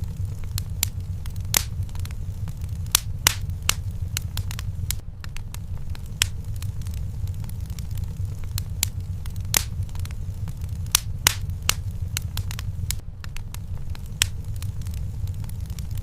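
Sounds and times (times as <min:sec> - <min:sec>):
fire low rumble: 0:00.0 - 0:16.0
wood crackling and popping: 0:00.0 - 0:16.0.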